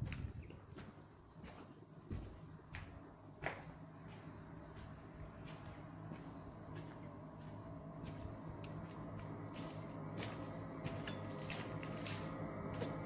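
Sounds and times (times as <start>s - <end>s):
footsteps crunching on rubble: 0.0s - 13.0s
low hum: 0.0s - 13.0s.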